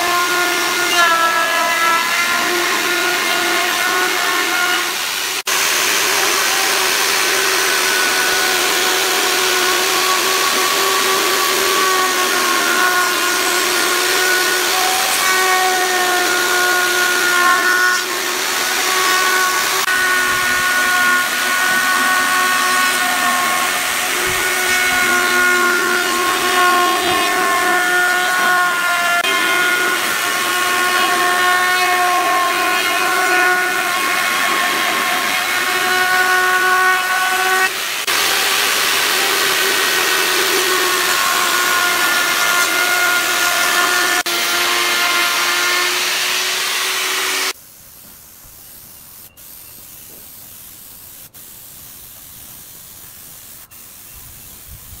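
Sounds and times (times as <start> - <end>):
spray gun hiss: 0.0 - 44.3, 45.2 - 55.0
router motor whine: 0.0 - 47.6.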